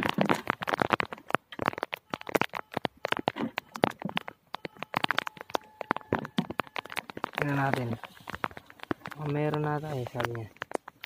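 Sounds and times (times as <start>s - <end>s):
plastic sheeting crackling: 0.0s - 11.0s.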